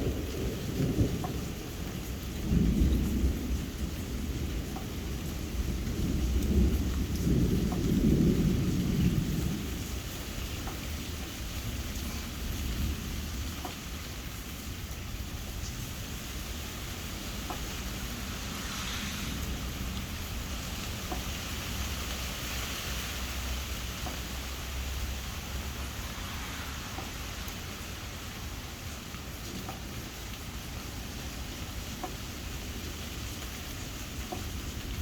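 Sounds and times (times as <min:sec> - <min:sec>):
distant thunder rumble: 0:00.0 - 0:35.0
steady rain: 0:00.0 - 0:35.0.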